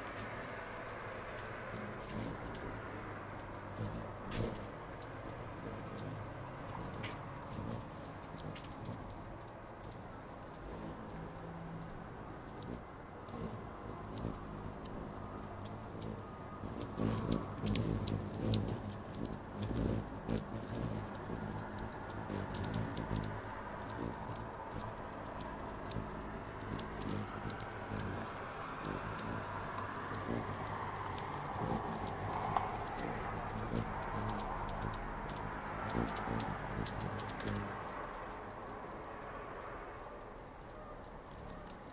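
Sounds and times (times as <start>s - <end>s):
hummingbird chip notes: 1.2s - 40.2s.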